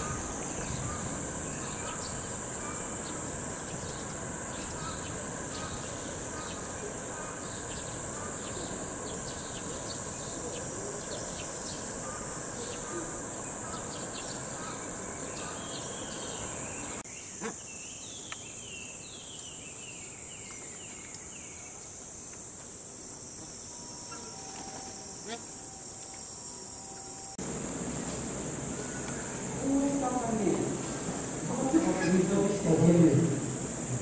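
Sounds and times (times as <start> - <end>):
high-pitched insect drone: 0.0 - 17.0, 22.1 - 34.0
outdoor noise: 0.0 - 34.0.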